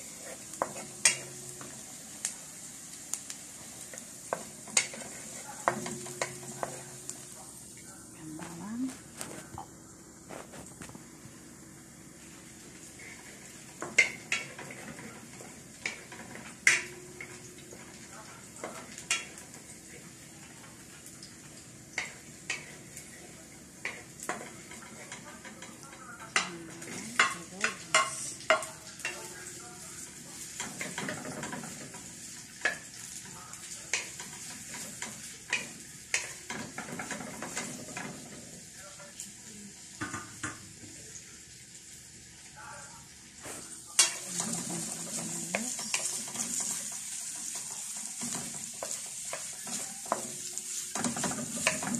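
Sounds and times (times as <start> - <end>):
oil sizzling in a wok: 0.0 - 51.9.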